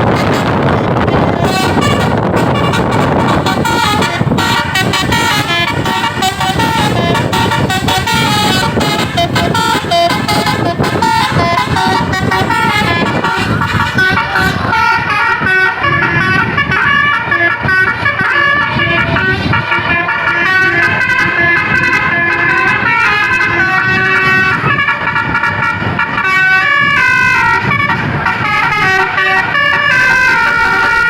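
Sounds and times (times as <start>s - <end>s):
musical air horn melody: 0.0s - 31.0s
steady low rumble: 0.0s - 31.0s.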